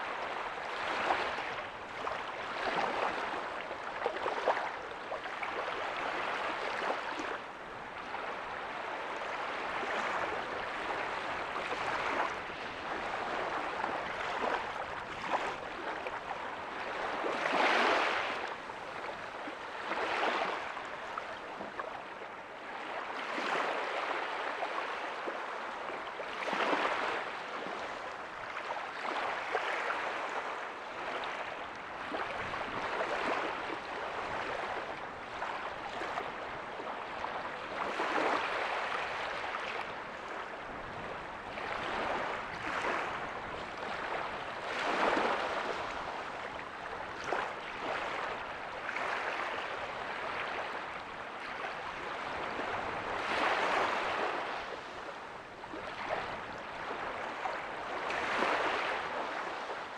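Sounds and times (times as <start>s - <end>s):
ocean waves breaking softly: 0.0s - 59.9s.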